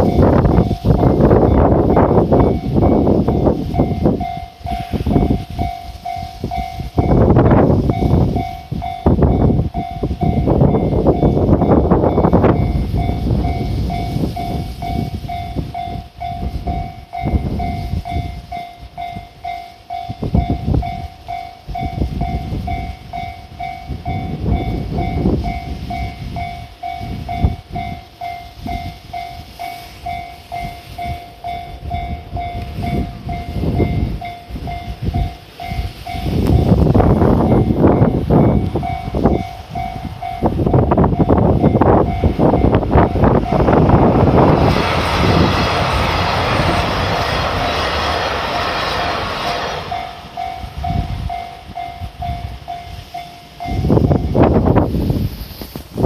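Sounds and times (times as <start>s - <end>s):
level-crossing warning bell: 0.0s - 55.8s
train rumbling and clattering: 0.0s - 56.0s.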